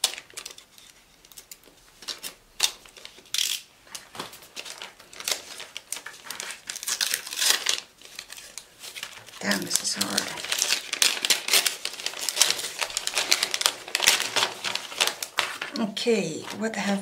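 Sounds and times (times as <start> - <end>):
tissue paper rustling: 1.8 - 17.0.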